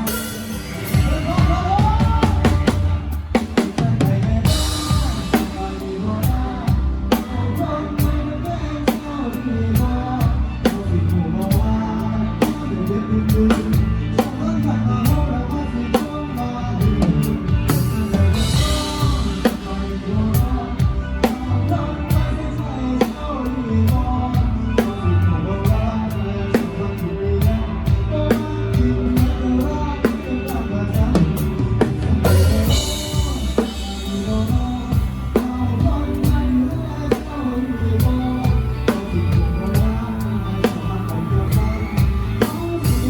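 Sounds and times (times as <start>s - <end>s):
live band music: 0.0s - 43.0s.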